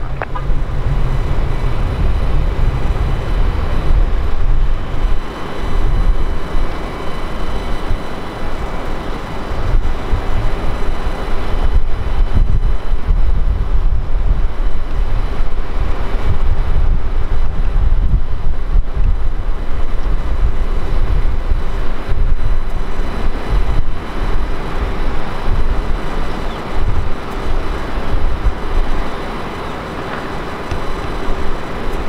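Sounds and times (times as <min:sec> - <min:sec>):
jet engines rumbling: 0:00.0 - 0:32.0
wind buffeting microphone: 0:00.0 - 0:32.0.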